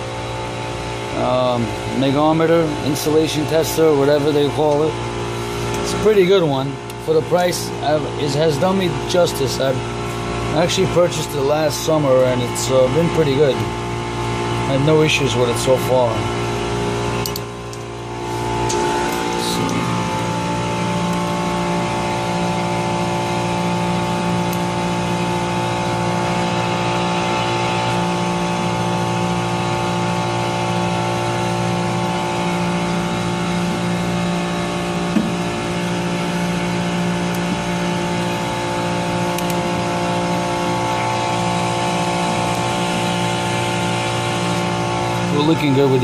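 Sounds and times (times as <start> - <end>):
chiller compressor humming: 0.0 - 46.0.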